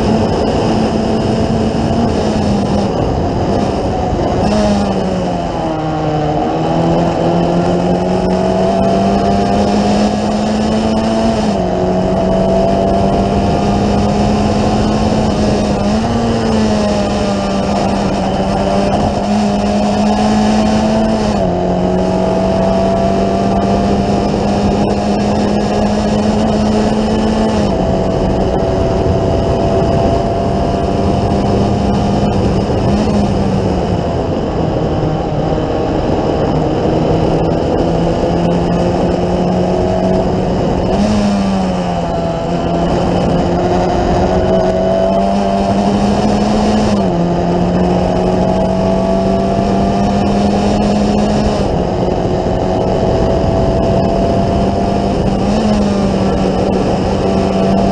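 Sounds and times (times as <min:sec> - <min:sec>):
heavy wind rush: 0:00.0 - 0:57.9
race car engine running hard: 0:00.0 - 0:57.9.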